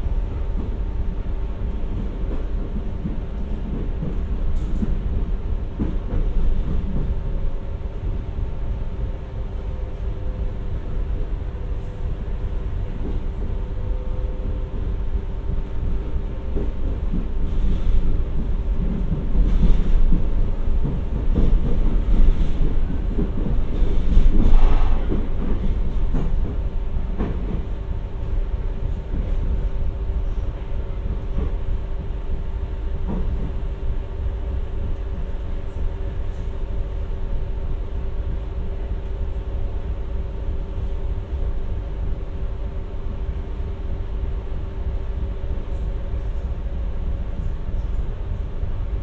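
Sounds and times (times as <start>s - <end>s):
train hum: 0.0s - 49.0s
train wheels rumbling on track: 0.0s - 49.0s.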